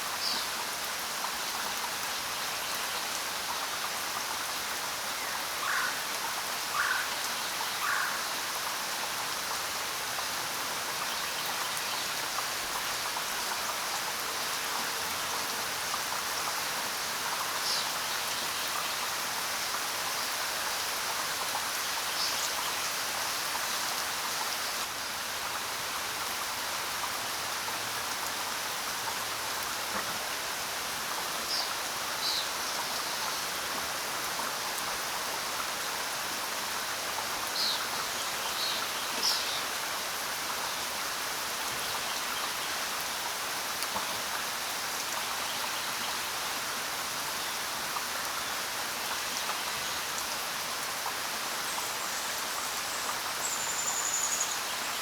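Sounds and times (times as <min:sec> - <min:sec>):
rainfall hiss: 0:00.0 - 0:55.0.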